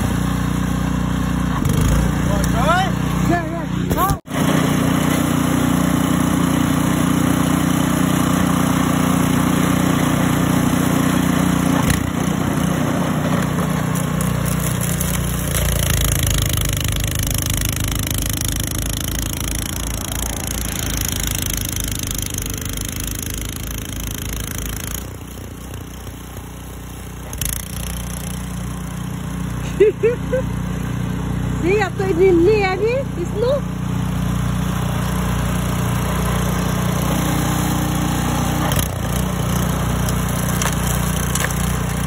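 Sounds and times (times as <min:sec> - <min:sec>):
small engine running: 0:00.0 - 0:42.0.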